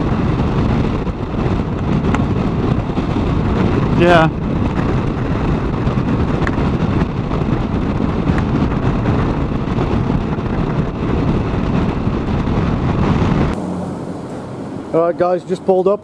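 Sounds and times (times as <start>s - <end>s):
motorcycle engine cruising: 0.0s - 16.0s
wind rushing over camera: 0.0s - 16.0s.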